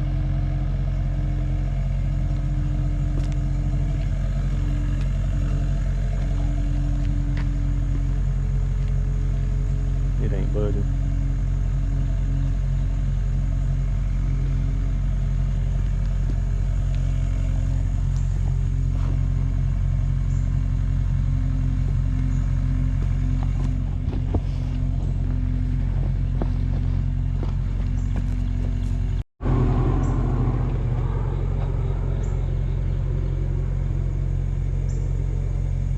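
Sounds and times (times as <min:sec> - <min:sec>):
engine idling: 0:00.0 - 0:35.9.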